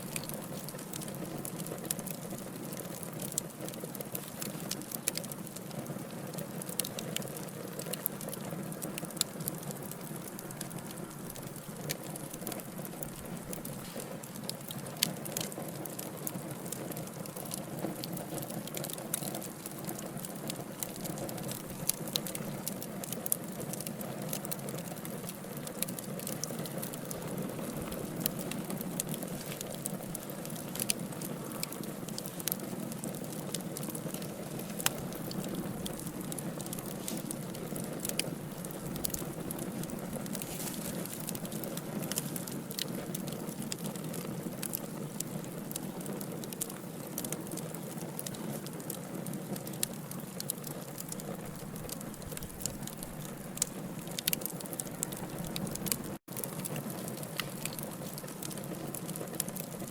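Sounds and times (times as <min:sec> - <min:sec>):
burning logs crackling: 0:00.0 - 0:59.9.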